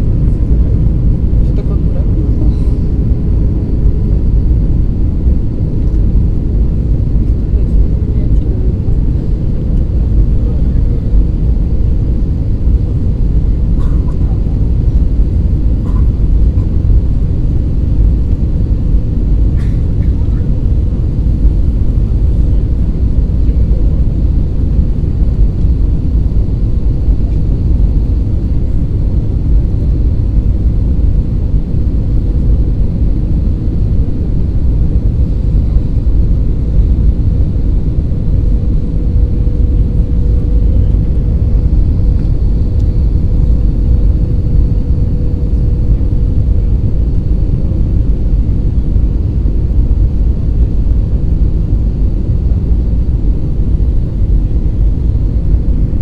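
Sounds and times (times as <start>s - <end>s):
engine rumble and rushing air: 0.0s - 56.0s
faint steady hum: 0.0s - 56.0s.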